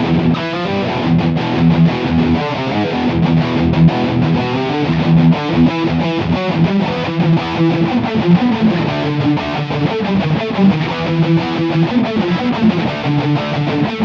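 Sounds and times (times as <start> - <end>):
distorted electric guitars riff: 0.0 - 14.0.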